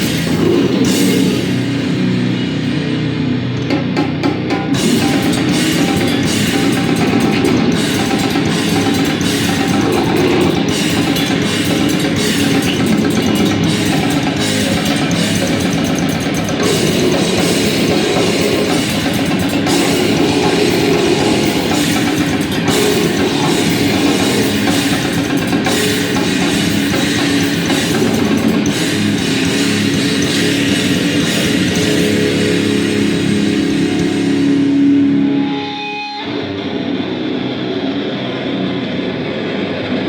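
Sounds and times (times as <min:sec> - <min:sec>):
drum kit: 0:00.0 - 0:37.0
distorted guitar: 0:00.0 - 0:40.0.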